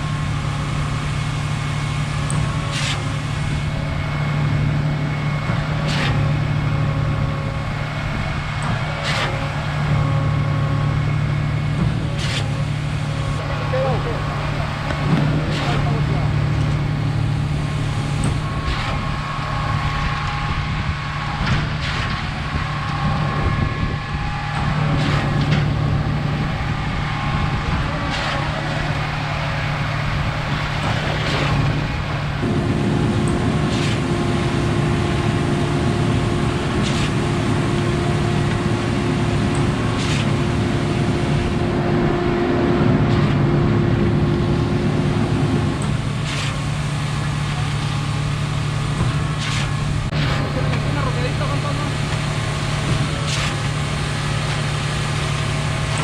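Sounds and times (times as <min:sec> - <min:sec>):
diesel engine running: 0:00.0 - 0:56.0
high whine: 0:00.0 - 0:56.0.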